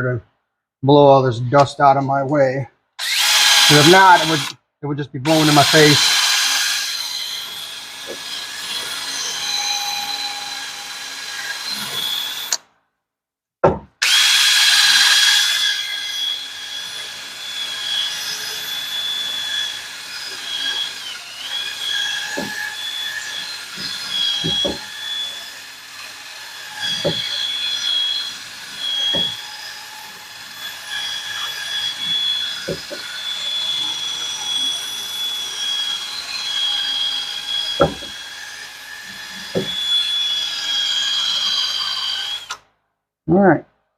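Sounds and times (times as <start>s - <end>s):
power tool high whine: 3.0s - 4.6s, 5.2s - 12.6s, 14.0s - 42.6s.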